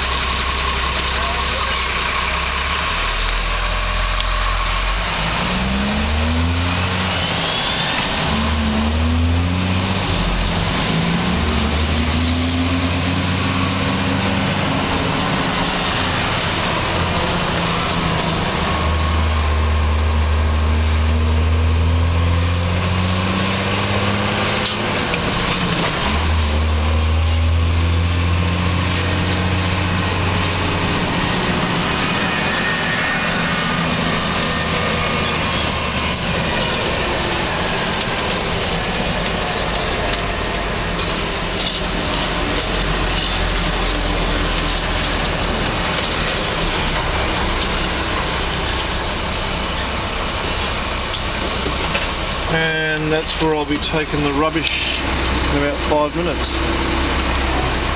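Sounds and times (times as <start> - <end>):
truck engine from inside cab: 0.0 - 57.9.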